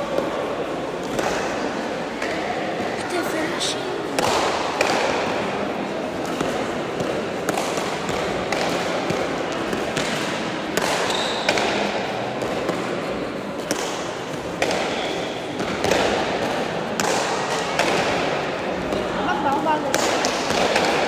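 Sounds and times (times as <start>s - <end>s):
hall background noise: 0.0s - 10.8s, 11.8s - 21.0s.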